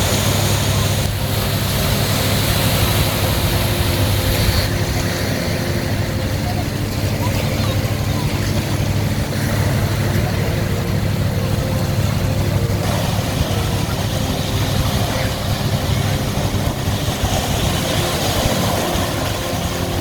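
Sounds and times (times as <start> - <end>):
engine humming: 0.0 - 20.0
noisy rush: 0.0 - 20.0.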